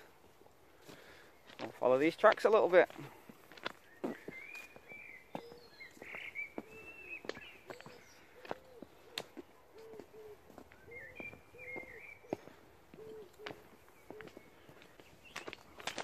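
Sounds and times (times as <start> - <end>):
footsteps crunching on stones: 0.3 - 16.0
birds singing and calling: 0.7 - 16.0.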